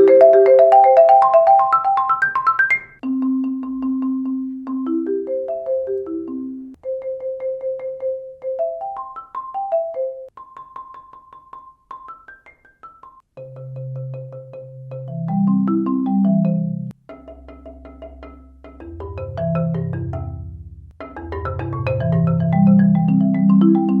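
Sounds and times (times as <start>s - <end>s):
marimba played with mallets: 0.0s - 24.0s.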